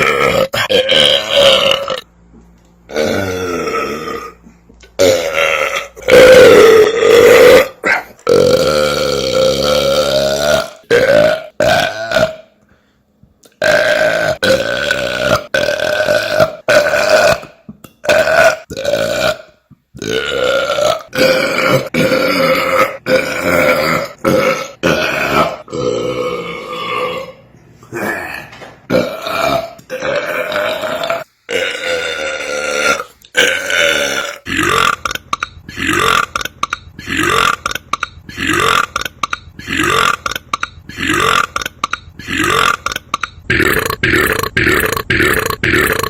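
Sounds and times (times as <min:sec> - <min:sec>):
man belching: 0:00.0 - 0:02.1, 0:02.9 - 0:12.5, 0:13.5 - 0:46.0.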